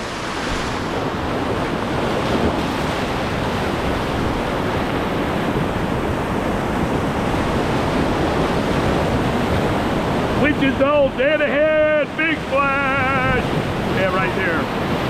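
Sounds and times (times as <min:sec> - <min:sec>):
whitewater rushing: 0:00.0 - 0:15.0.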